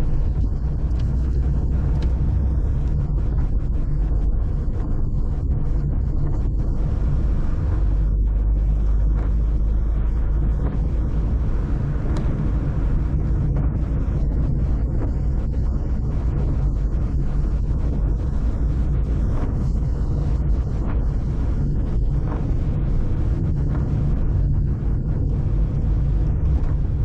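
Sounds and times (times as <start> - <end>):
car engine rumble: 0.0 - 27.0
wind buffeting microphone: 0.0 - 27.0.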